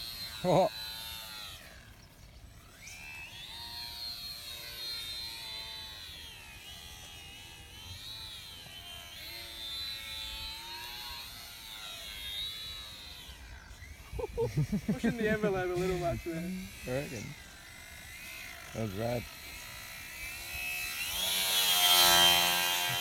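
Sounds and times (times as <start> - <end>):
model plane motor whining: 0.0 - 23.0.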